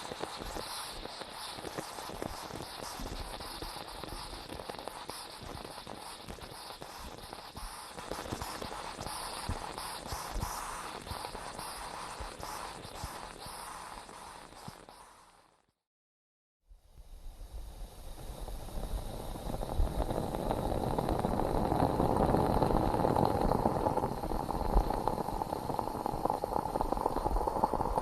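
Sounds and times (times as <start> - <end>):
moka pot sputtering and gurgling: 0.0 - 15.6, 17.1 - 28.0
steady hiss: 0.0 - 15.6, 16.8 - 28.0.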